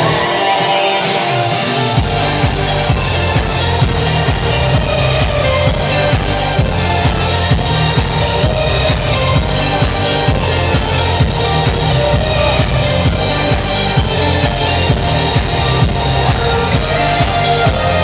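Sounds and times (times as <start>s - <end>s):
electronic dance music: 0.0s - 18.0s.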